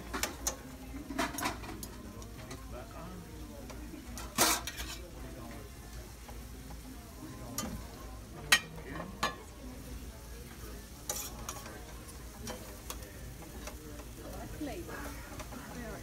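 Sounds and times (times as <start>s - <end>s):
metal utensils clinking on pan: 0.0s - 2.7s, 3.6s - 6.8s, 7.4s - 9.7s, 10.9s - 16.0s
meat sizzling in a pan: 0.0s - 16.0s.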